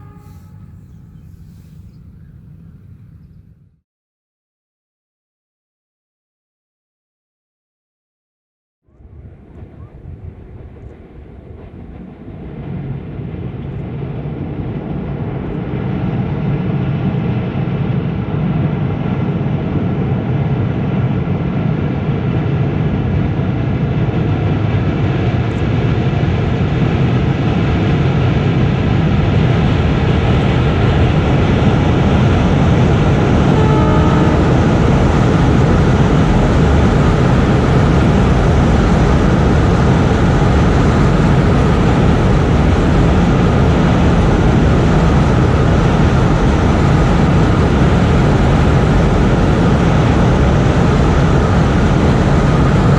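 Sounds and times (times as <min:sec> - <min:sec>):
diesel train approaching: 0:00.0 - 0:03.6, 0:08.9 - 0:52.9.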